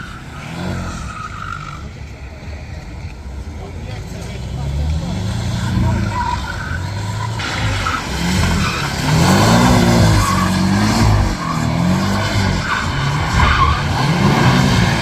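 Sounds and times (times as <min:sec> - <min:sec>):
car engine revving: 0:00.0 - 0:15.0
tyres squealing: 0:00.0 - 0:15.0.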